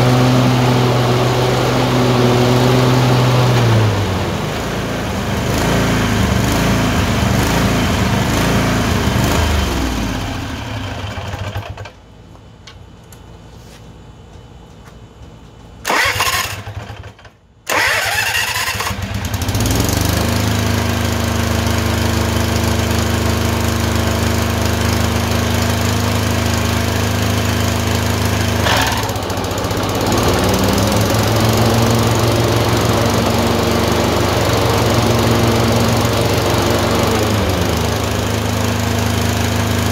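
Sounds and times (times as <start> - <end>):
engine running and revving: 0.0 - 11.8, 15.9 - 17.1, 17.7 - 39.9.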